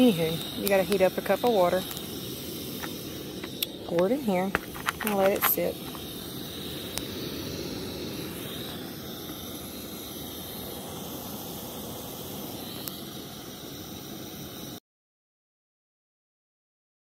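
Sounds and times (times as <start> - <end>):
gas stove hissing: 0.0 - 14.8.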